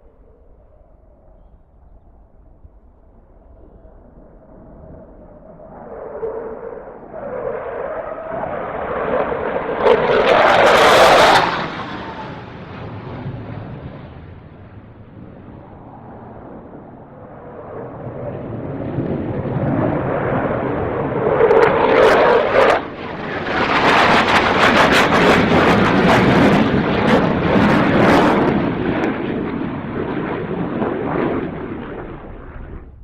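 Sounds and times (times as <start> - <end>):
jet aircraft flying past: 0.0 - 33.0.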